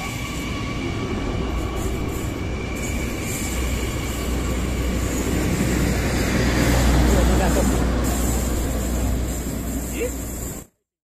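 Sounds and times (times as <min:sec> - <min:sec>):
train carriages rumbling on rails: 0:00.0 - 0:10.7.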